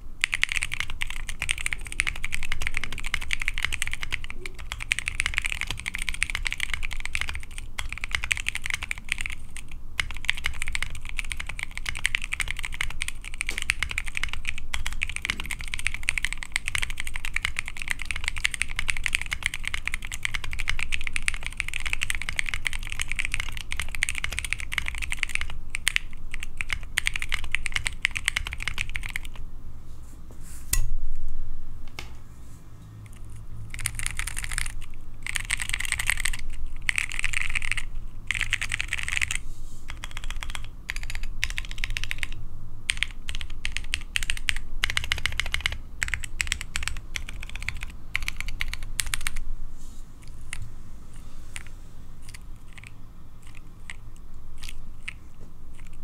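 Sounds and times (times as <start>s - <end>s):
fast typing on mechanical keyboard: 0.2s - 29.4s, 33.1s - 49.4s, 51.6s - 56.0s.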